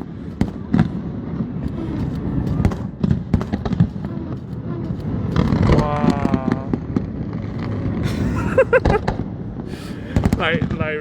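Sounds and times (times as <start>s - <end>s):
fireworks bangs and crackles: 0.0s - 11.0s
low rumble of bursts: 0.0s - 11.0s.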